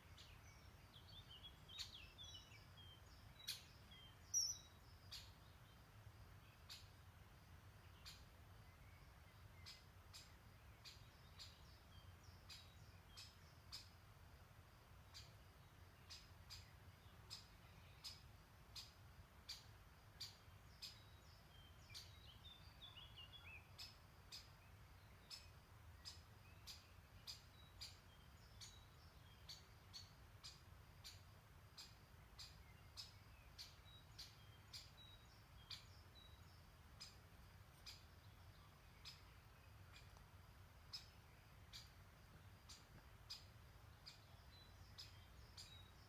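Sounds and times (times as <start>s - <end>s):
faint low hiss: 0.0s - 46.0s.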